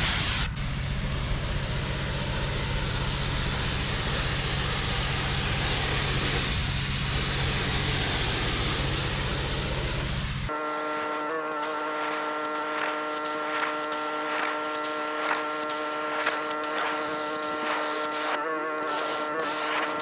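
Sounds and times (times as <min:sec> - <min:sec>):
high-pressure water jet hissing: 0:00.0 - 0:20.0
pressure washer motor humming: 0:00.6 - 0:20.0.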